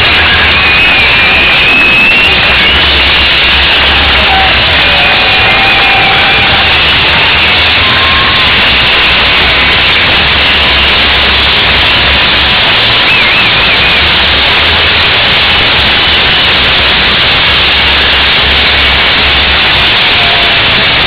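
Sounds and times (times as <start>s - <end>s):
fireworks fountains hissing: 0.0s - 21.0s.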